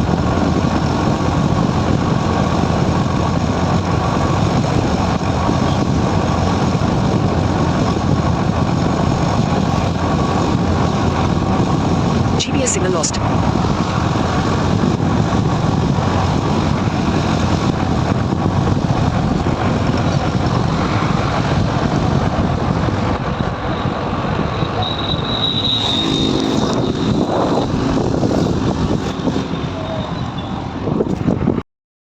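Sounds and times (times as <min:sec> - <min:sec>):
motorcycle engine and wind rumble: 0:00.0 - 0:31.6.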